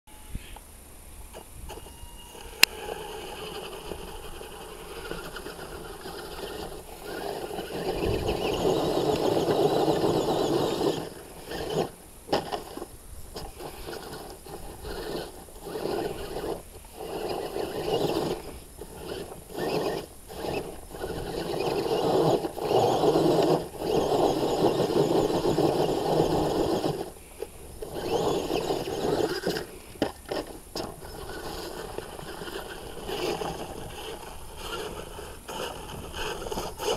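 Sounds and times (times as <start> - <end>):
toy truck motor whining: 1.3 - 36.9
tyres scrabbling on dirt: 1.3 - 36.9.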